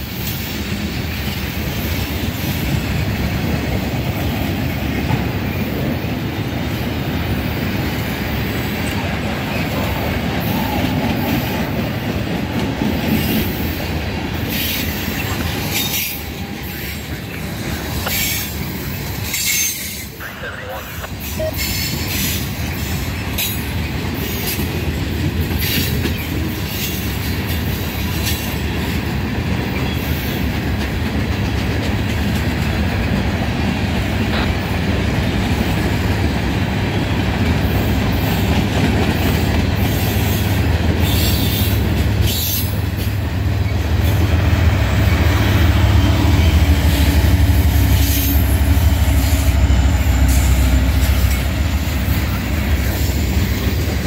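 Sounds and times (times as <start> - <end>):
steel wheels clacking over rail joints: 0.0 - 20.2, 21.0 - 54.0
deep diesel locomotive rumble: 0.0 - 54.0.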